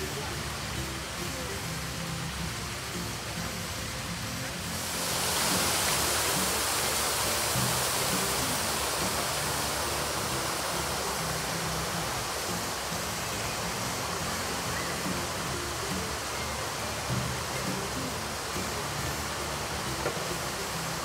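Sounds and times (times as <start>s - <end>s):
faint music: 0.0s - 21.0s
steady rushing hiss: 0.0s - 21.0s.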